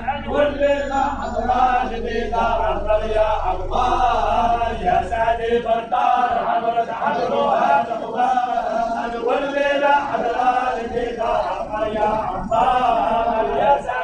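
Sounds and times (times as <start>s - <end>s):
men chanting together: 0.0s - 14.0s.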